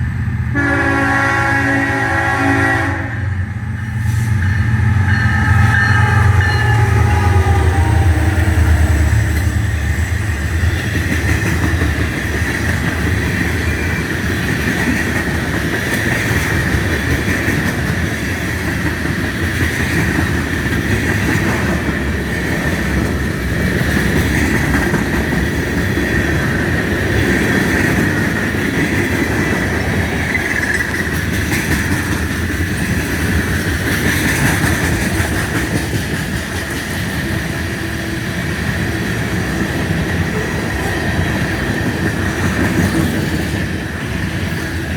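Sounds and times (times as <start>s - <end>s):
freight train rumbling on rails: 0.0s - 44.9s.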